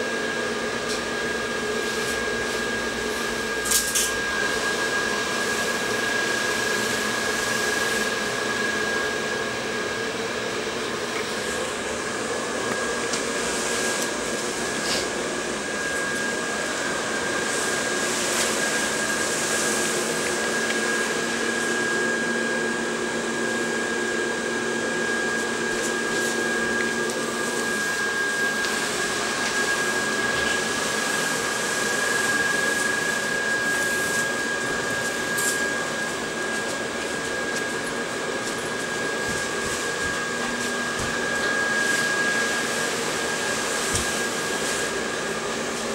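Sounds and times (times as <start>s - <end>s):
blower fan whirring: 0.0s - 45.9s.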